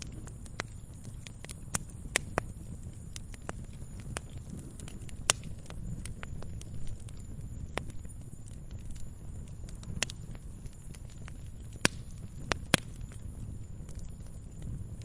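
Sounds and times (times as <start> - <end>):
flames rumbling: 0.0 - 15.0
wood fire crackling and popping: 0.0 - 15.0.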